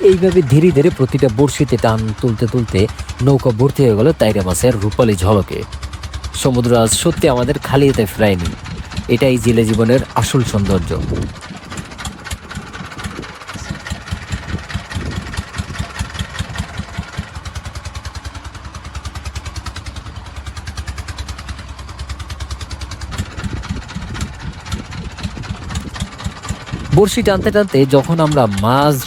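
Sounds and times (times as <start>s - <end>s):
boat engine chugging: 0.0s - 29.0s.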